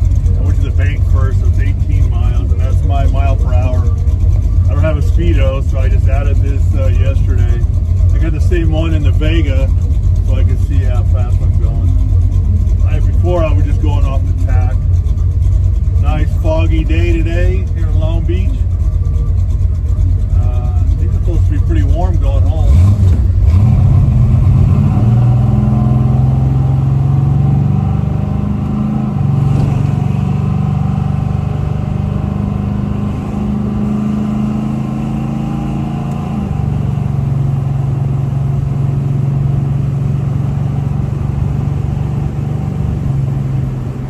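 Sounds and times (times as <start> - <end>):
pickup engine running: 0.0 - 44.0.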